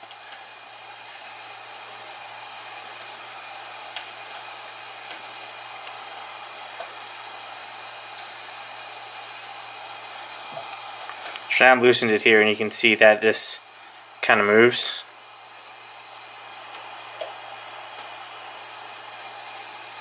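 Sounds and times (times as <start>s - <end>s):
whooshing cooling fans: 0.0s - 20.0s.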